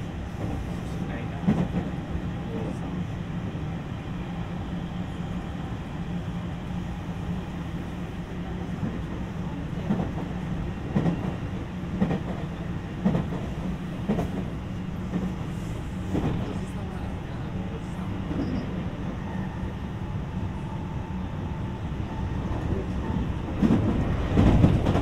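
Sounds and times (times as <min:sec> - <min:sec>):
train interior rumble and hum: 0:00.0 - 0:25.0.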